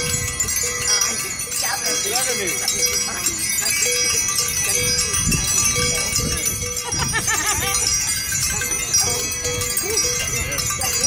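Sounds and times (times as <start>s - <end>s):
many bells ringing: 0.0s - 11.0s.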